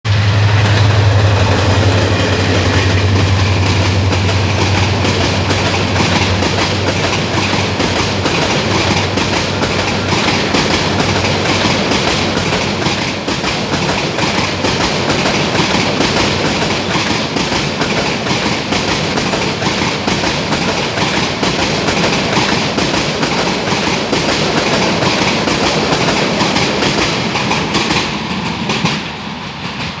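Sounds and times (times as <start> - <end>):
train wheels clacking on rails: 0.0 - 30.0.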